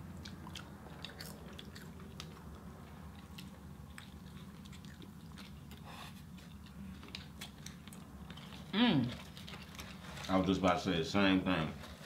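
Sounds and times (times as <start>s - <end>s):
low steady hum: 0.0s - 12.0s
people chewing burgers: 0.0s - 12.0s.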